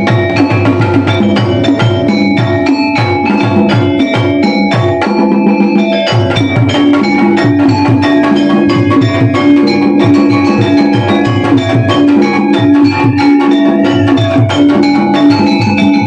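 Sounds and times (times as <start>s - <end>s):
drum strokes: 0.0s - 16.0s
metal keyed instruments ringing: 0.0s - 16.0s.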